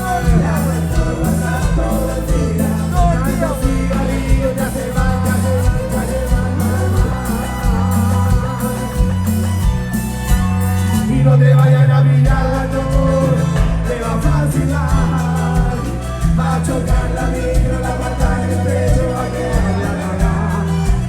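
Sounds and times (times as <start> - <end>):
person singing: 0.0 - 10.1, 10.9 - 21.0
cumbia band playing live: 0.0 - 21.0
pulsing bass rhythm: 0.0 - 21.0.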